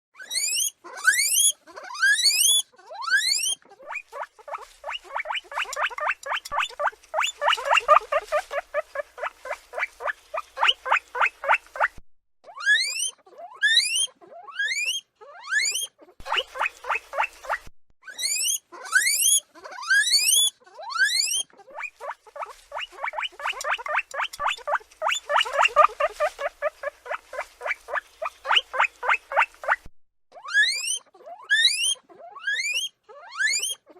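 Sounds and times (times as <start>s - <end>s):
guinea pig short squeaks: 0.2s - 33.9s
guinea pig wheeking: 0.2s - 33.9s.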